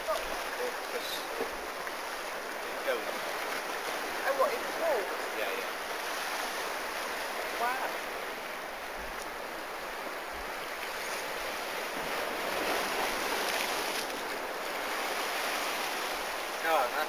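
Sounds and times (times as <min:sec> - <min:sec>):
sea surf washing onto shore: 0:00.0 - 0:17.0.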